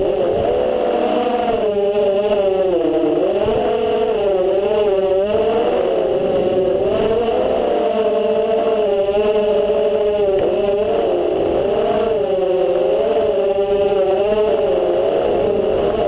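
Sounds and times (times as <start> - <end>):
quadcopter propellers whining: 0.0 - 16.0.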